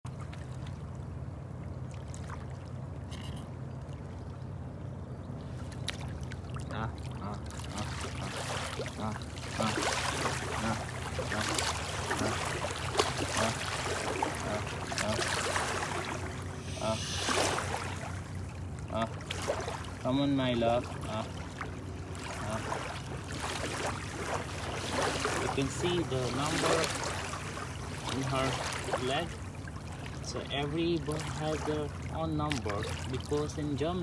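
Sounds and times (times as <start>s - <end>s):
steady low hum: 0.0s - 34.0s
water splashing and lapping: 0.0s - 34.0s.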